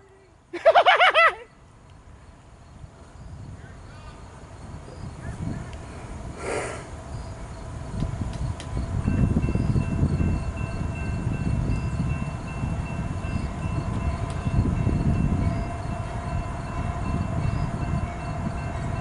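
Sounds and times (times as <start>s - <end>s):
freight train rumbling by: 1.6s - 19.0s.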